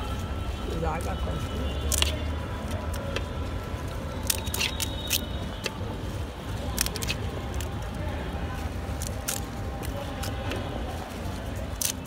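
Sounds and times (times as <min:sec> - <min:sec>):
low street rumble: 0:00.0 - 0:12.0
crisp shells crunching: 0:01.8 - 0:12.0.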